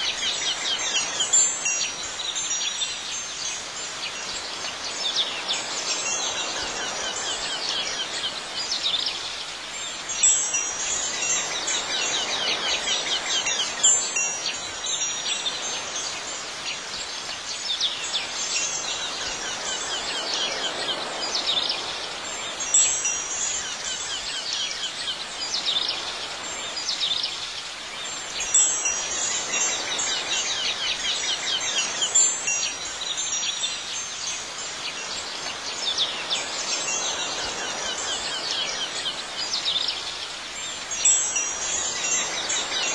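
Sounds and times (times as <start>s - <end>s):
wind chimes ringing: 0.0s - 27.2s, 28.0s - 42.9s.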